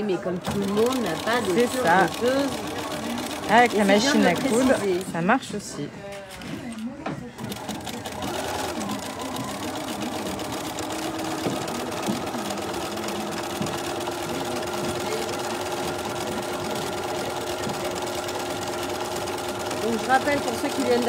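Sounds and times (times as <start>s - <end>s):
sewing machine stitching: 0.2s - 5.1s, 7.4s - 21.0s.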